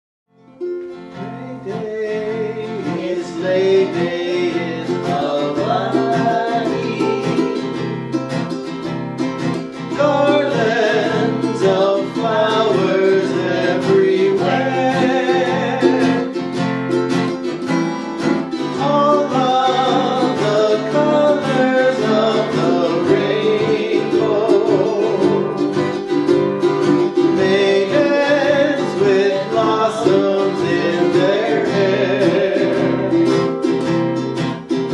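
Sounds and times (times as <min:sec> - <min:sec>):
ukulele strumming: 0:00.4 - 0:34.9
people singing: 0:01.4 - 0:08.0, 0:09.8 - 0:16.8, 0:18.3 - 0:33.6.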